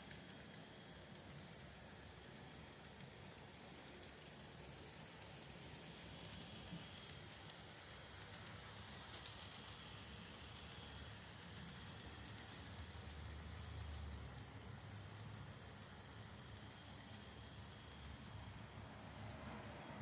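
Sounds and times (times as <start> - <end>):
model train motor hum: 0.0 - 20.0
steady hiss: 0.0 - 20.0.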